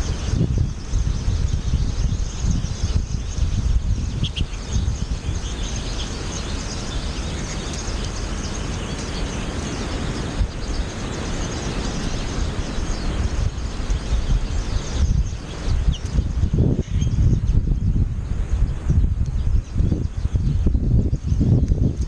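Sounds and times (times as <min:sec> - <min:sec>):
faint bird chirps: 0:00.0 - 0:22.0
wind buffeting microphone: 0:00.0 - 0:22.0.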